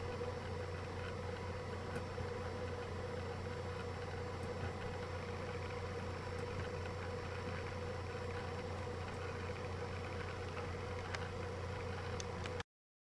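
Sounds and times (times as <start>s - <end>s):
low electrical hum: 0.0s - 12.6s.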